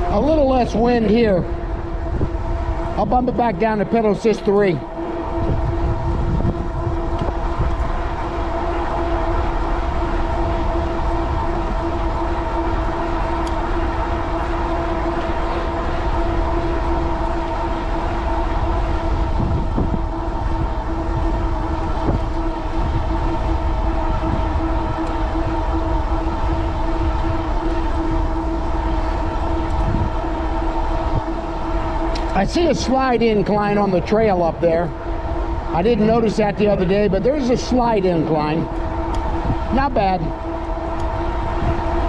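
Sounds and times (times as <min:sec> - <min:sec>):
electric bike motor whine: 0:00.0 - 0:42.0
wind on microphone: 0:00.0 - 0:42.0.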